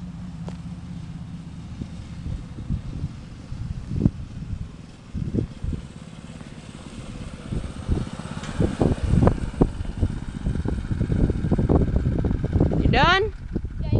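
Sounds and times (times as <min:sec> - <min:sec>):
distant dirt bike engine: 0:00.0 - 0:13.9.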